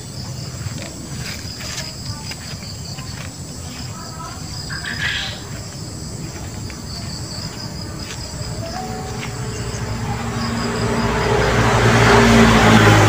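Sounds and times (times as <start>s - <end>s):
insects chirring: 0.0s - 13.0s
vehicle engine approaching: 0.0s - 13.0s.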